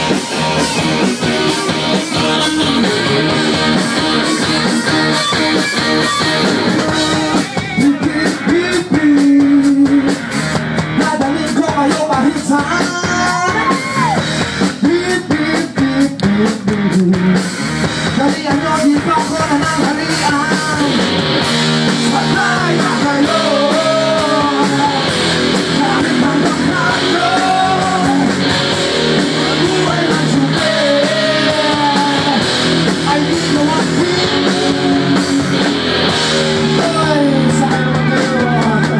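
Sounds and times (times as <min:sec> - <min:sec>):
person singing: 0:00.0 - 0:10.2, 0:11.0 - 0:17.4, 0:22.0 - 0:28.5, 0:29.1 - 0:38.9
drums: 0:00.0 - 0:38.9
electric guitar: 0:00.0 - 0:38.9.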